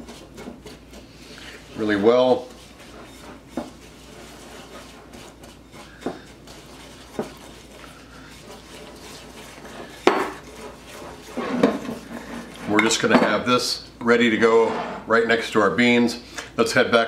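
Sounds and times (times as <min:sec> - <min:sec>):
whisk scraping in a bowl: 0:00.0 - 0:16.1.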